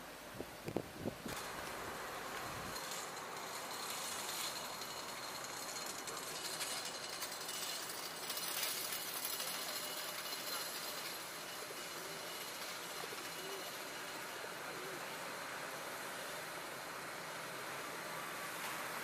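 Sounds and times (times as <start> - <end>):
tram wheels on rails: 0.1 - 19.0.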